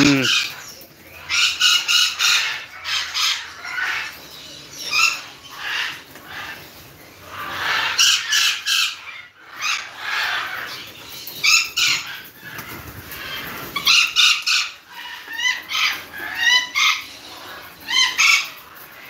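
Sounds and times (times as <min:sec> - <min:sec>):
parrots squawking: 0:00.0 - 0:19.0.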